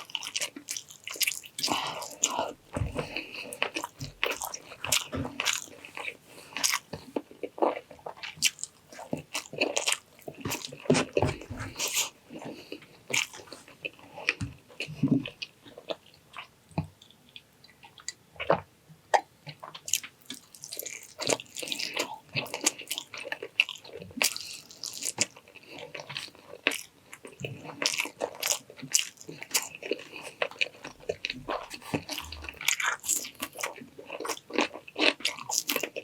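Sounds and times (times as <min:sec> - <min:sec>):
person chewing and biting: 0:00.0 - 0:16.5, 0:19.2 - 0:36.0.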